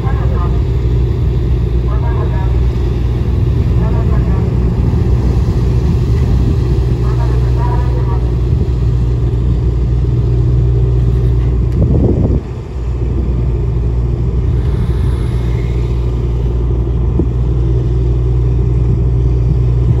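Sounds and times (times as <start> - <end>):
propeller wash churning water: 0.0 - 20.0
ship engines rumbling: 0.0 - 20.0.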